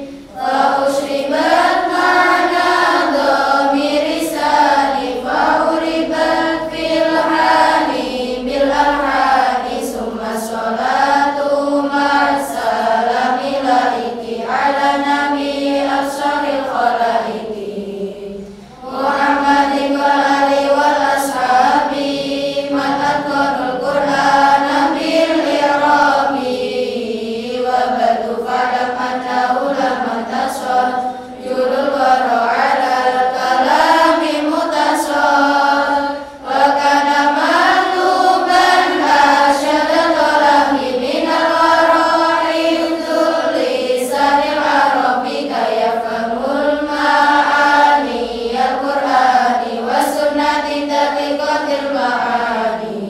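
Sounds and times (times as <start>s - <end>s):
group of women chanting in unison: 0.0s - 53.0s.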